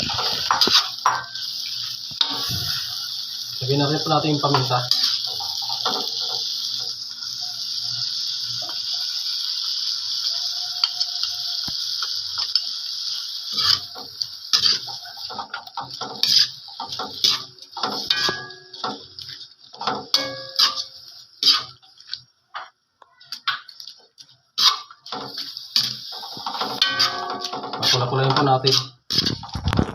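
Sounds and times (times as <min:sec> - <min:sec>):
shrimp sizzling in a pan: 0:00.0 - 0:29.9.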